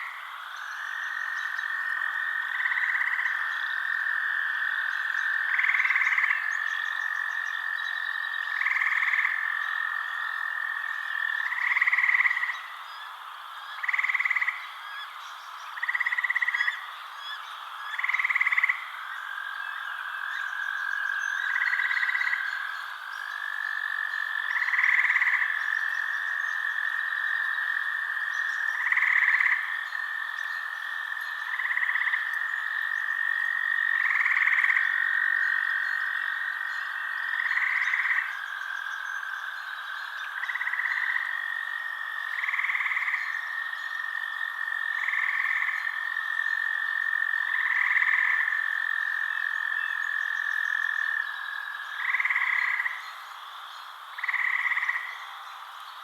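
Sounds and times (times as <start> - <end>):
frogs trilling: 0.0 - 56.0.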